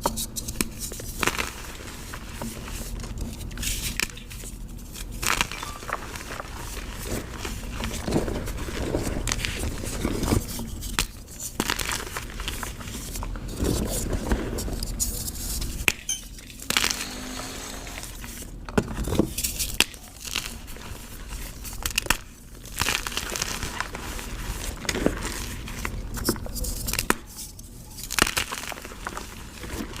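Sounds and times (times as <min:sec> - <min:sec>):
chalk crunching and snapping: 0:00.1 - 0:16.0, 0:19.2 - 0:29.9.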